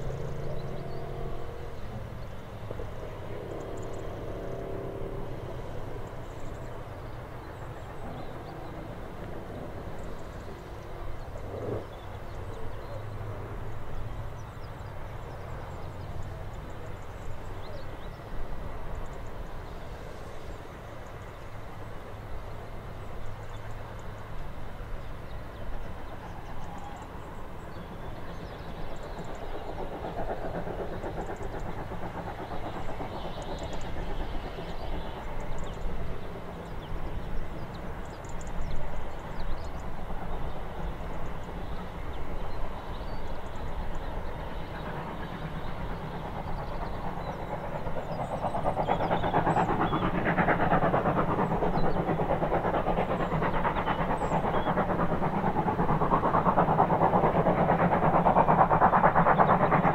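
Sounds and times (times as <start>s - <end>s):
steam locomotive rumbling: 0.0s - 59.9s.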